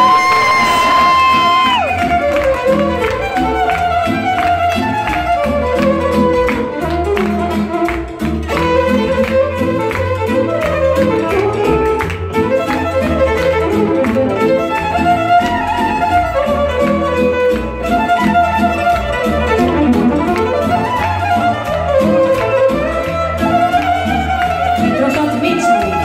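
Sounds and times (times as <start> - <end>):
bass backing beat: 0.0 - 26.0
people clapping along: 0.0 - 26.0
violin dance melody: 0.0 - 26.0.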